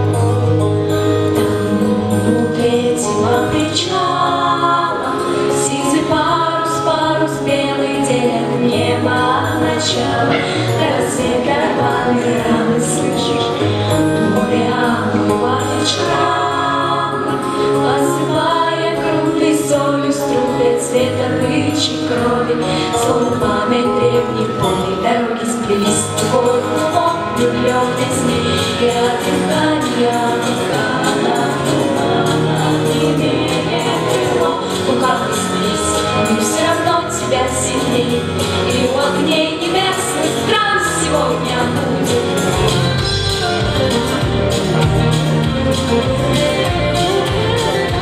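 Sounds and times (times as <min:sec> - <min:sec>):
instrumental accompaniment: 0:00.0 - 0:48.0
girls singing in harmony: 0:02.3 - 0:42.8.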